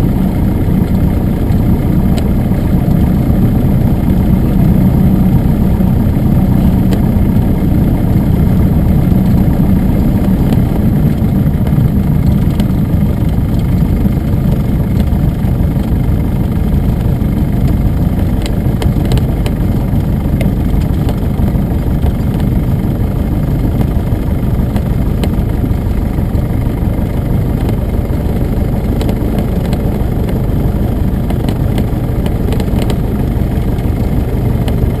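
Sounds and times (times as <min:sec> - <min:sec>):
aircraft piston engine running: 0:00.0 - 0:35.0.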